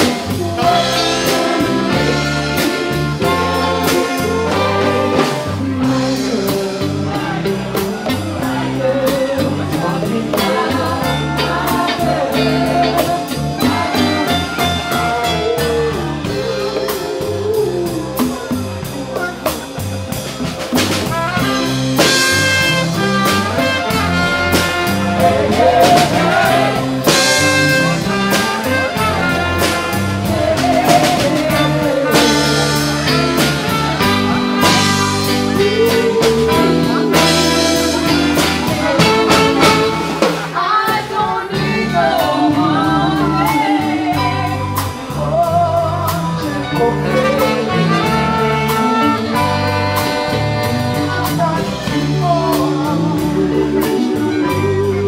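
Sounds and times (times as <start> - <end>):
horn section: 0.0 - 18.0, 18.7 - 55.0
person singing: 0.0 - 19.6, 21.4 - 55.0
drum kit with cymbals: 0.0 - 55.0
electric guitar: 0.0 - 55.0.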